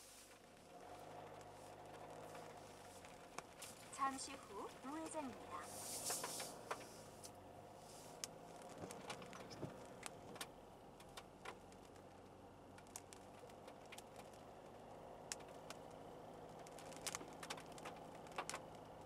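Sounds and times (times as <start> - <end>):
car cabin hum while driving: 0.0 - 19.0
raindrops ticking on car: 0.2 - 7.4, 8.2 - 15.9, 16.5 - 19.0.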